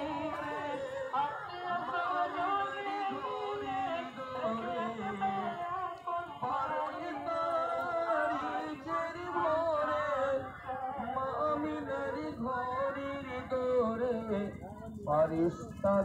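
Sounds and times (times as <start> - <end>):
voices singing with wavering notes: 0.0 - 14.7.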